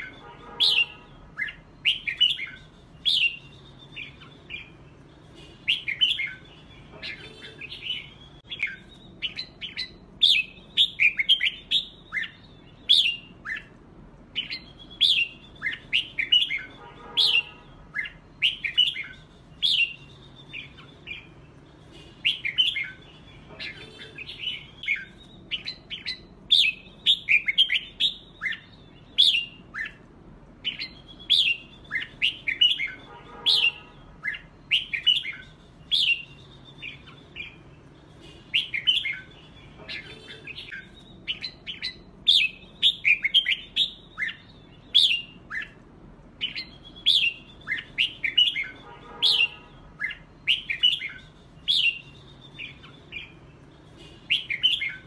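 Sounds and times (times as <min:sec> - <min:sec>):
birds singing whistled phrases: 0:00.0 - 0:55.0.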